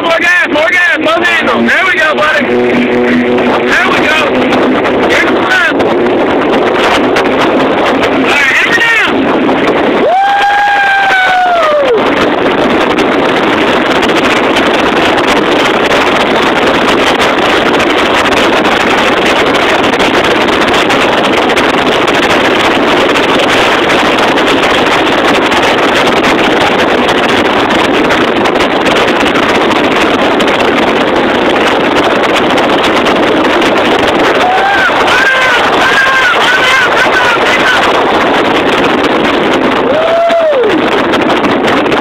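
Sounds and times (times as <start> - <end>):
jet boat engines roaring: 0.0 - 42.0
wind on microphone: 0.0 - 42.0.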